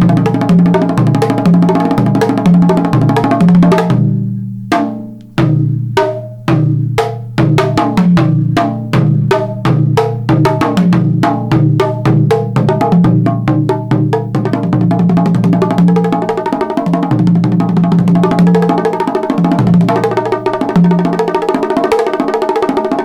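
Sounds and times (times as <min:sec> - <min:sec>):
drums struck with sticks: 0:00.0 - 0:21.6.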